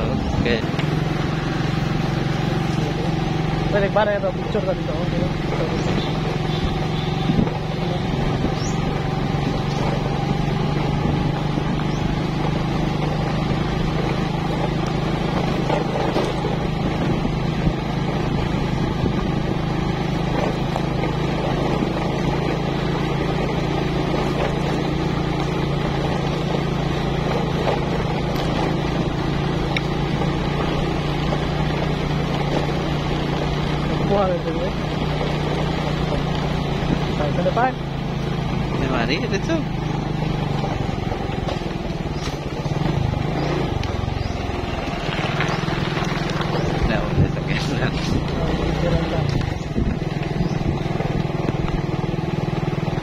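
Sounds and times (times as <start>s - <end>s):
motorcycle engine cruising: 0.0s - 53.0s
tyre noise on dirt track: 0.0s - 53.0s.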